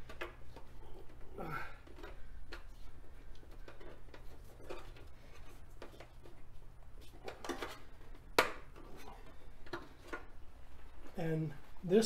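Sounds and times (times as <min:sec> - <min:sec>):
soft handling noises: 0:00.0 - 0:12.0.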